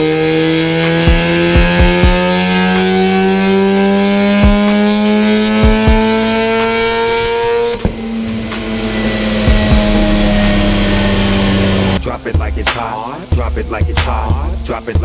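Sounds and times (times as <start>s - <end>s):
rotary engine revving under load: 0.0s - 13.4s
exhaust bangs and backfires: 0.0s - 15.0s.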